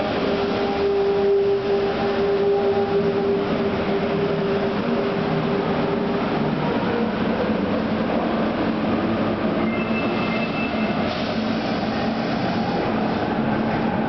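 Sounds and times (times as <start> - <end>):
train running noise with low hum: 0.0 - 14.0.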